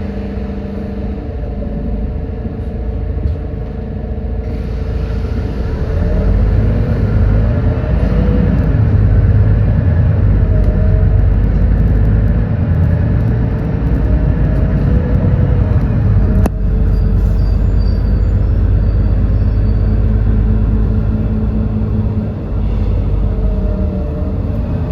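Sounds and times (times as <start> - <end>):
bus engine rumbling: 0.0 - 24.9.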